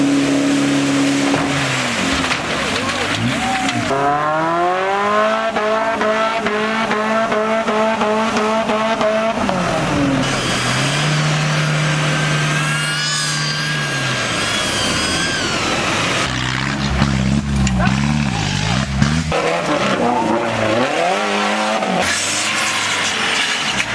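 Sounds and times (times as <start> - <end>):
off-road vehicle engine revving: 0.0 - 23.9.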